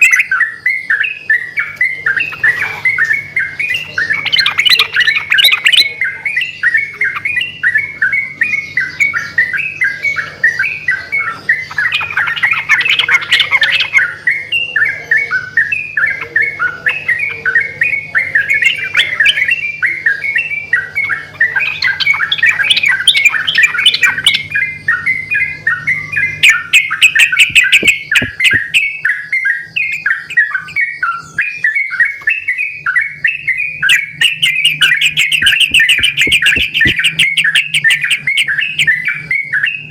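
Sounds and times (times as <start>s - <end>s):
bulbuls singing: 0.0s - 39.9s.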